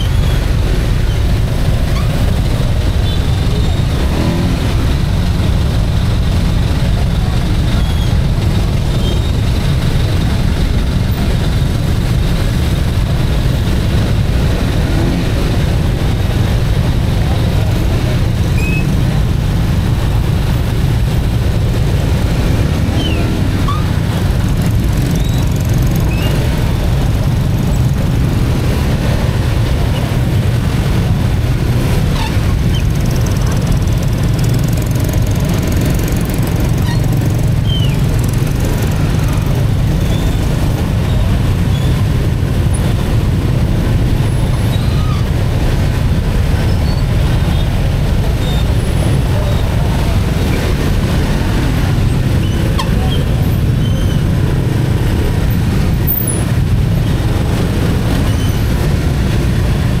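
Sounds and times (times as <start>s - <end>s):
slow city traffic rumble: 0.0s - 60.0s.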